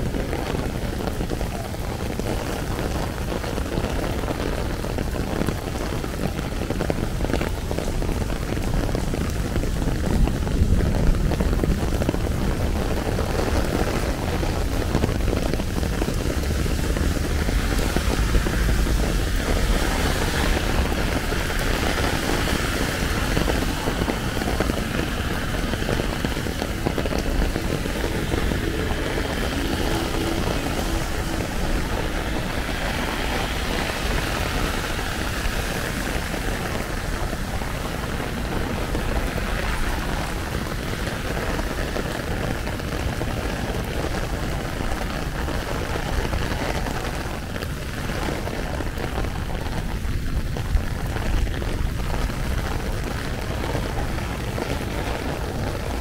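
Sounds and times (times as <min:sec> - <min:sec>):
city traffic rumble: 0:00.0 - 0:56.0
heavy rain on umbrella and street: 0:00.0 - 0:56.0.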